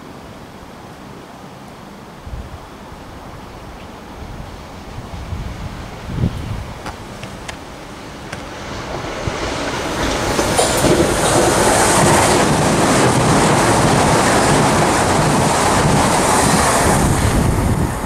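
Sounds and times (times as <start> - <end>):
train wheels on rails: 3.3 - 18.0.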